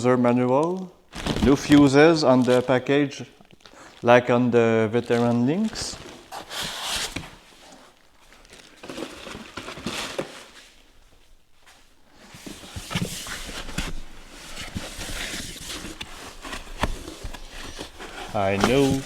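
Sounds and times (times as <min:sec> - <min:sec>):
packaging rustling: 0:00.7 - 0:04.2, 0:04.8 - 0:11.2, 0:12.2 - 0:19.0.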